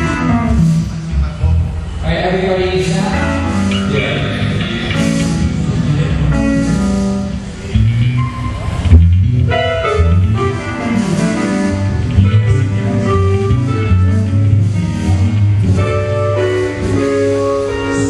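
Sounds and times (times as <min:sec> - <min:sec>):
live band playing: 0:00.0 - 0:02.0, 0:02.8 - 0:18.0.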